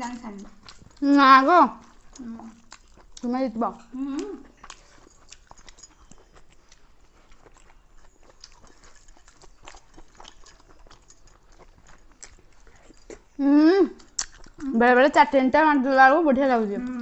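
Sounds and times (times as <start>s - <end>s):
people chewing: 0.0s - 15.2s, 16.4s - 17.0s.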